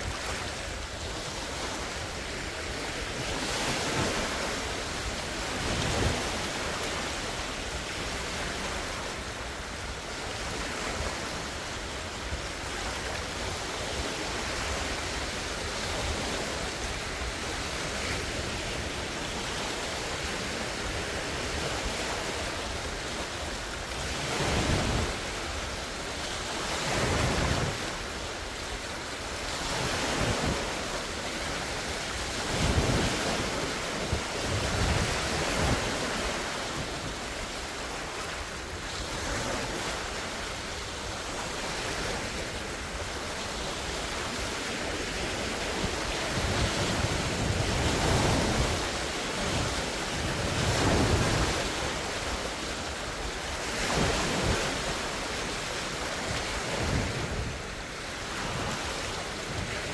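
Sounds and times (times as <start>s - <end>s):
wind buffeting microphone: 0.0s - 39.9s, 40.5s - 59.9s
lake waves breaking on shore: 0.0s - 59.9s.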